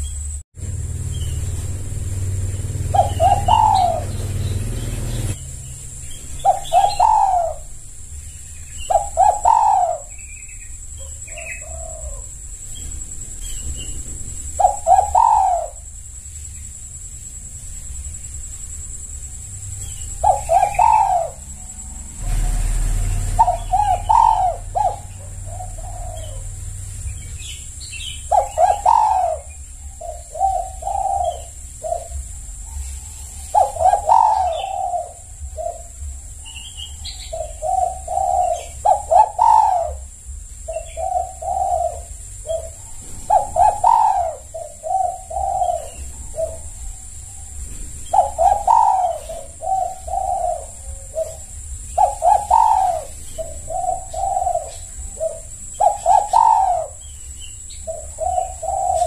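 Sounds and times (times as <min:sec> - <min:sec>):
dove cooing: 0:01.0 - 0:16.0, 0:19.0 - 0:59.0.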